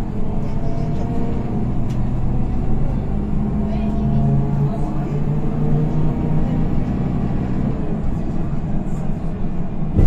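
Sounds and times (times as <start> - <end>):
bus engine rumbling: 0.0 - 10.0.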